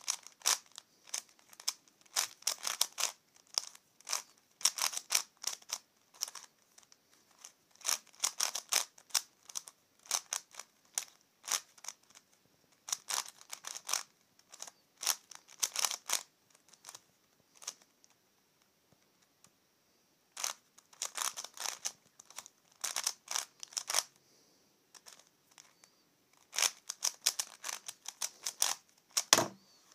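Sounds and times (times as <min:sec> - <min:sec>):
puzzle cube clicking: 0:00.0 - 0:18.2, 0:20.4 - 0:24.2, 0:25.0 - 0:25.7, 0:26.4 - 0:29.6.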